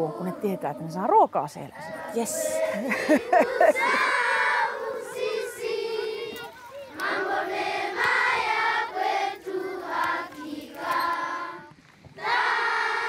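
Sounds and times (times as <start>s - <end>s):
children singing together: 0.0s - 0.8s, 1.8s - 13.0s.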